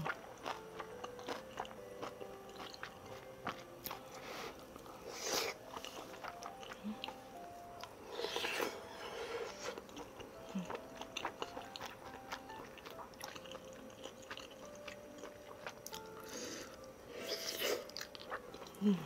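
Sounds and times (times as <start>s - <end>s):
person chewing with mouth clicks: 0.0s - 19.0s.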